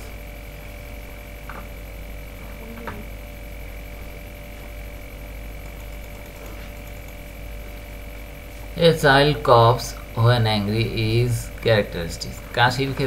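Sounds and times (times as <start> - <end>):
electrical hum: 0.0 - 13.0
high even whine: 0.0 - 13.0.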